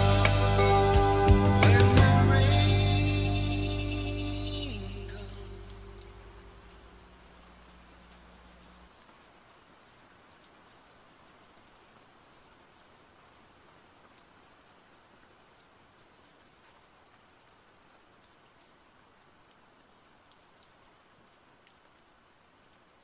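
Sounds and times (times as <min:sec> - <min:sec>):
faint steady rain: 0:00.0 - 0:23.0
raindrops ticking: 0:00.0 - 0:23.0.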